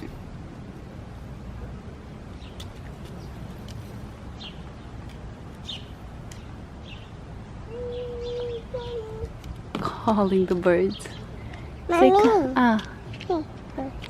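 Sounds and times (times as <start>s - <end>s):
birds chirping: 1.5s - 14.0s.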